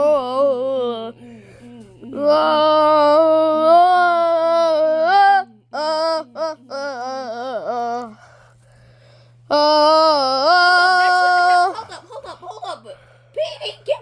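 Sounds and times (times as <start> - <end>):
young person singing: 0.0 - 8.3, 9.5 - 12.8.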